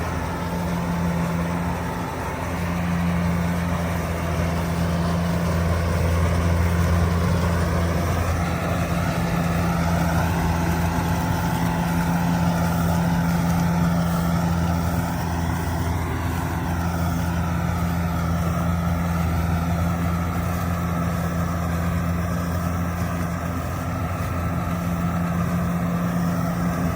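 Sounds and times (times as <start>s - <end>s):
combine harvester engine droning: 0.0s - 26.9s.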